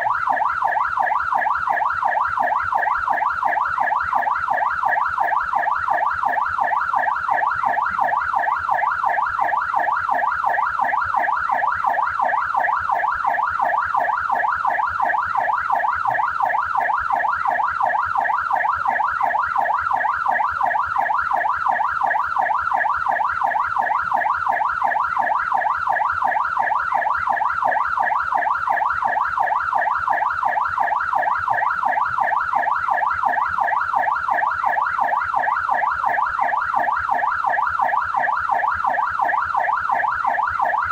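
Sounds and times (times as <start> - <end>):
police siren warbling: 0.0 - 40.9.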